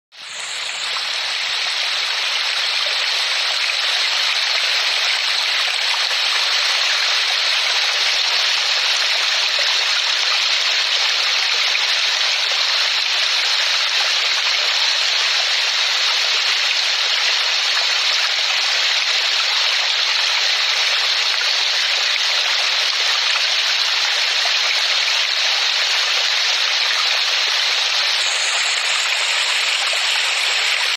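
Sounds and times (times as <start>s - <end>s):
stream cascading over rocks: 0.2s - 30.9s.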